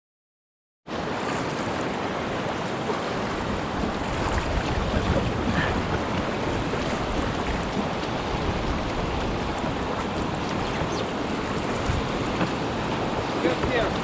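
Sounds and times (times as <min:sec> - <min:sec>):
river rapids rushing: 0:01.1 - 0:14.0.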